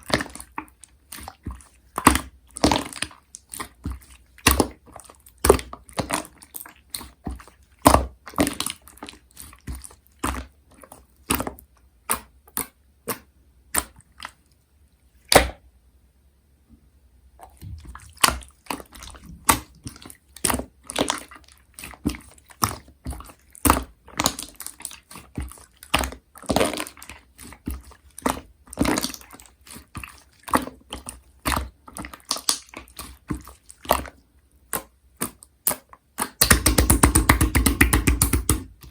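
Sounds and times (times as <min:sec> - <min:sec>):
slime squished by hand: 0:00.0 - 0:14.4, 0:15.2 - 0:15.6, 0:17.4 - 0:38.9.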